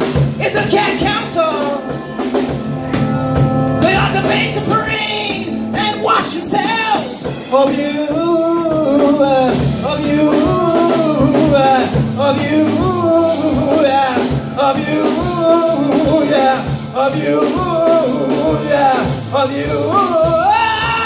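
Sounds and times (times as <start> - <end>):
bass guitar: 0.0 - 21.0
drum kit beat: 0.0 - 21.0
electric guitar: 0.0 - 21.0
keyboard: 0.0 - 21.0
person singing: 0.3 - 21.0.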